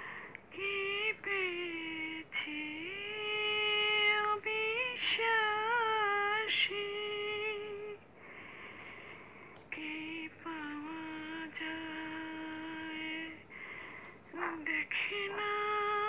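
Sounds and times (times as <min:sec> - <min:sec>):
woman singing unaccompanied: 0:00.0 - 0:08.1, 0:09.6 - 0:16.0.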